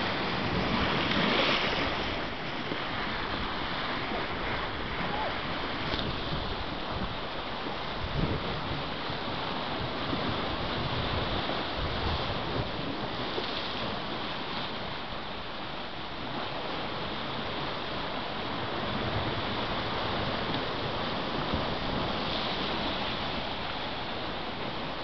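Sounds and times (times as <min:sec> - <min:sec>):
surf washing over rocks: 0:00.0 - 0:25.0.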